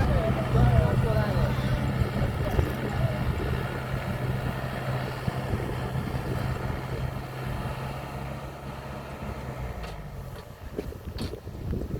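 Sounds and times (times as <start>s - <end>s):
combine harvester engine running: 0.0s - 11.9s.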